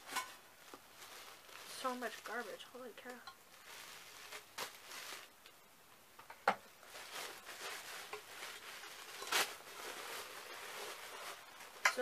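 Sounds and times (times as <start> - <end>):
cardboard packaging rustling: 0.0 - 2.7, 3.5 - 5.5, 6.7 - 12.0.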